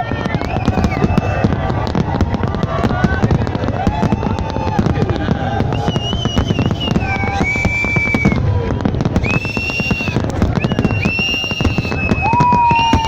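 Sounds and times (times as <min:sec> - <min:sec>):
fireworks crackling bangs: 0:00.0 - 0:13.0.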